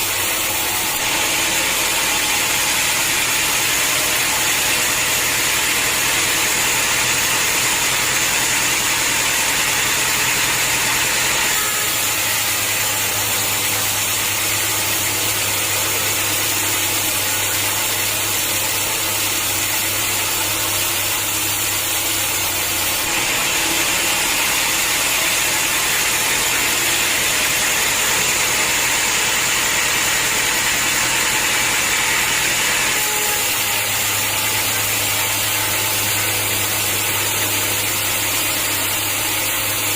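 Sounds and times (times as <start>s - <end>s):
sawmill machinery humming and hissing: 0.0s - 39.9s.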